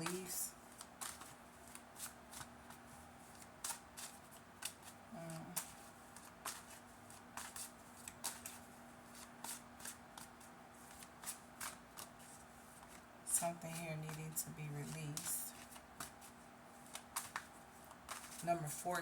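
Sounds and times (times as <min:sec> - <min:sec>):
cards shuffled and snapping: 0:00.0 - 0:13.1, 0:15.1 - 0:18.5
faint steady hum: 0:00.0 - 0:19.0.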